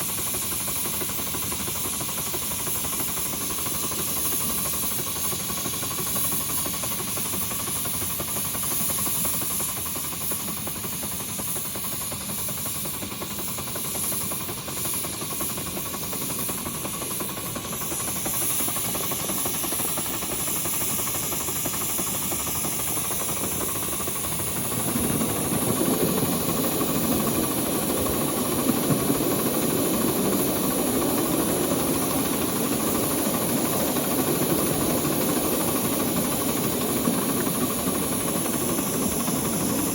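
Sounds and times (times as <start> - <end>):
steam hiss: 0.0 - 39.9
steam locomotive running: 0.0 - 39.9.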